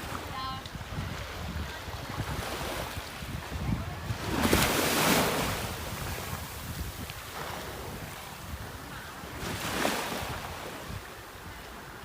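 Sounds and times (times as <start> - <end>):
sea waves washing in: 0.0 - 12.0
wind buffeting microphone: 0.0 - 12.0.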